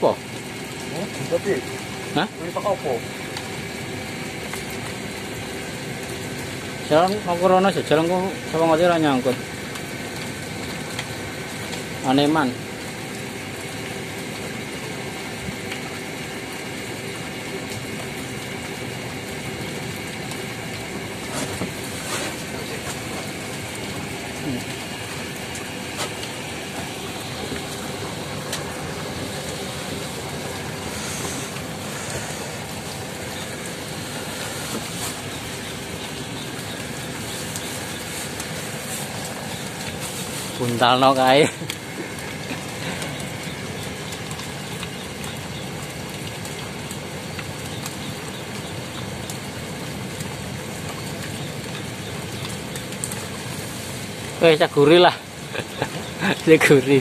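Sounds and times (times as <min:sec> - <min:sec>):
heavy rain on water and roof: 0:00.0 - 0:57.0
sharp ticks of raindrops: 0:00.0 - 0:57.0.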